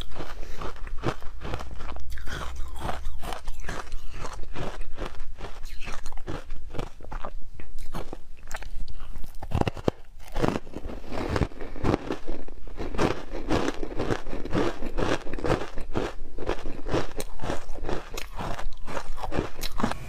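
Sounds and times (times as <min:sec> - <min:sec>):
crunching frozen ice: 0:00.0 - 0:20.0.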